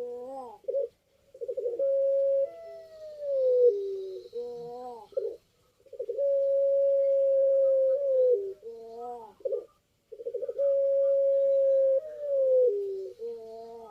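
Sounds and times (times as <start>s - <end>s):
dove cooing: 0.0s - 13.9s.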